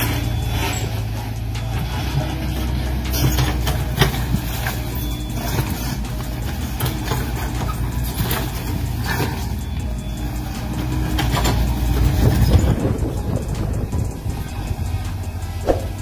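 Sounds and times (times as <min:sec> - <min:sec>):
heavy machinery engine rumble: 0:00.0 - 0:16.0.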